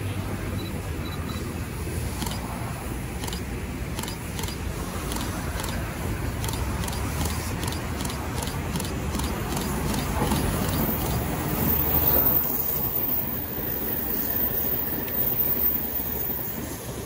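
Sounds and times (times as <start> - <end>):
electric train rumble: 0.0 - 17.0
town traffic noise: 0.0 - 17.0.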